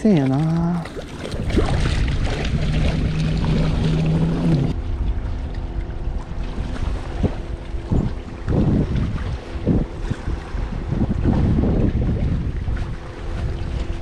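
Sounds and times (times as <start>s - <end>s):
boat engine drone: 0.0s - 14.0s
wind buffeting microphone: 0.0s - 14.0s.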